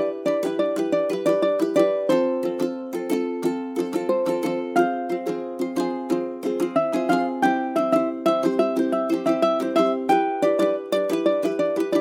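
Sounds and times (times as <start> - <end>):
plucked string instrument music: 0.0 - 12.0.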